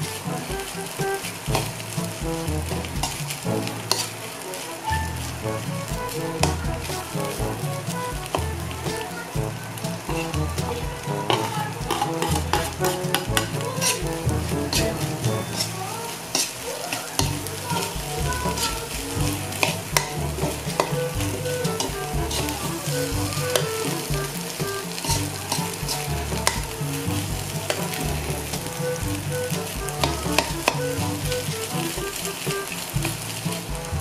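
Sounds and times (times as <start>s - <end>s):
food sizzling in a wok: 0.0s - 34.0s
metal spatula scraping wok: 0.0s - 34.0s.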